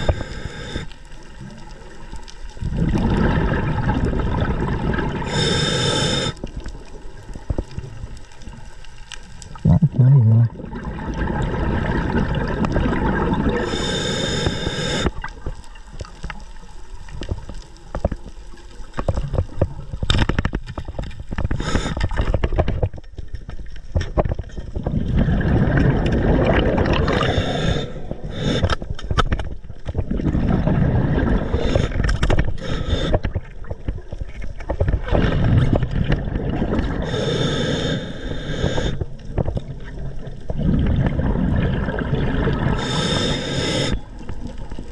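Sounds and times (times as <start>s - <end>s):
underwater water rushing and gurgling: 0.0s - 44.9s.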